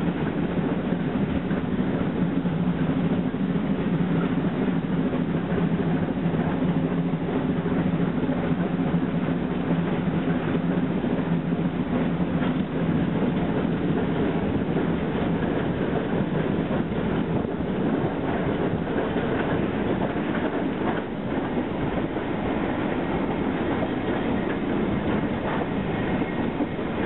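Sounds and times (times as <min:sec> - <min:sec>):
steam train running: 0:00.0 - 0:27.0.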